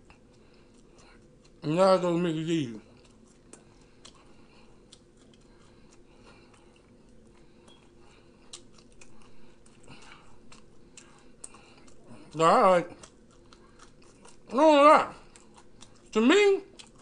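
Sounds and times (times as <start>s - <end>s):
chewing french fries: 0.0s - 17.0s.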